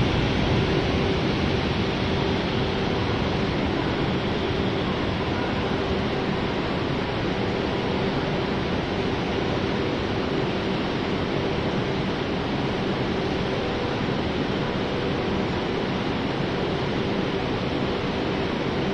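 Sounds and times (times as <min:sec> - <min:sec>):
faint steady hum: 0:00.0 - 0:18.9.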